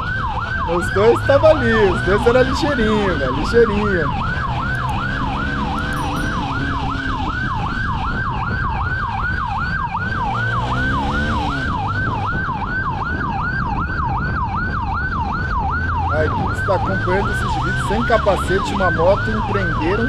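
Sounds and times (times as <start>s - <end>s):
motorcycle engine and wind: 0.0s - 20.0s
police siren yelping: 0.0s - 20.0s.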